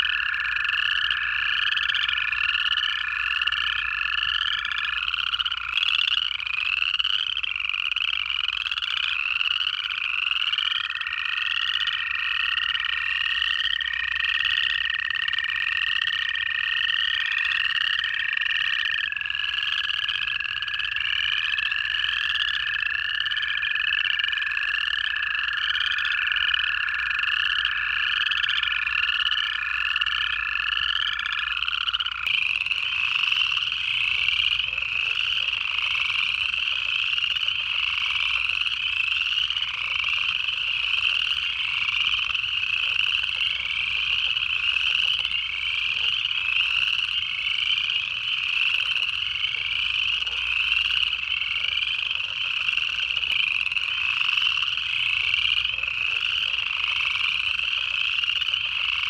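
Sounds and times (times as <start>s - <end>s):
chorus frogs trilling: 0.0s - 59.0s
toads long low trills: 0.0s - 59.0s.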